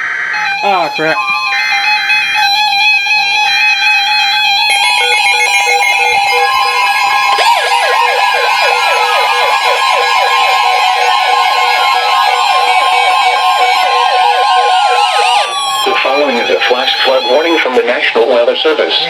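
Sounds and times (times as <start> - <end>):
falling siren-like warble: 0.0 - 19.0
steady warning alarm tone: 0.0 - 19.0
steady alert tones: 0.4 - 18.4
rapid beeping: 0.4 - 19.0.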